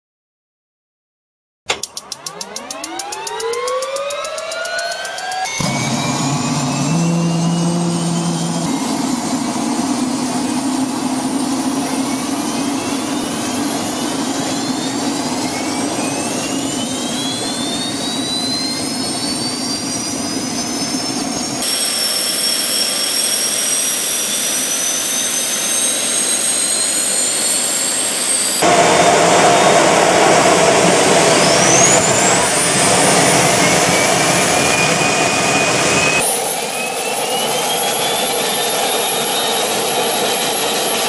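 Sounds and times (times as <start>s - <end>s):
gas turbine engine whining: 1.7s - 41.0s.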